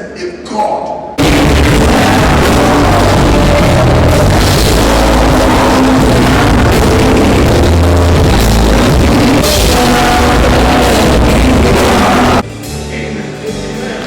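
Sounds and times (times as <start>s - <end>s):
loud music: 1.2s - 14.0s.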